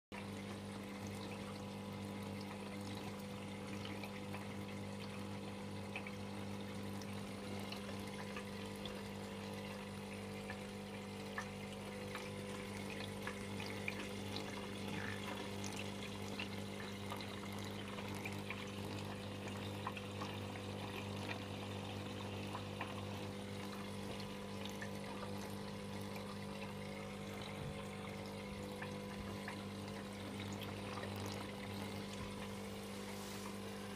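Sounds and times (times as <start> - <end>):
low electric hum: 0.2 - 33.9
water trickling: 0.2 - 33.9.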